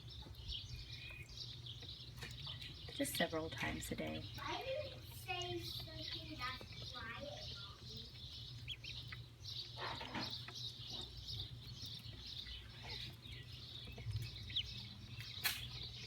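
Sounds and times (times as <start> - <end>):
ducklings peeping: 0.0 - 16.0
steady low hum: 0.0 - 16.0.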